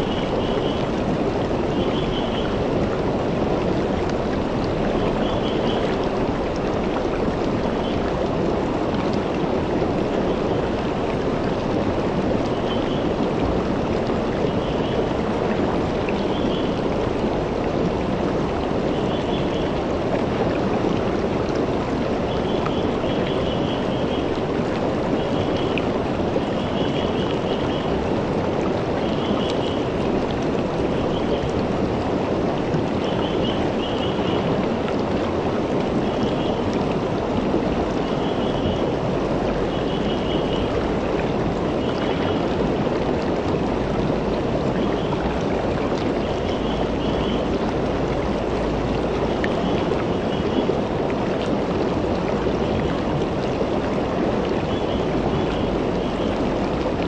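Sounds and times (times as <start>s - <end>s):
river flowing over rocks: 0.0s - 57.0s.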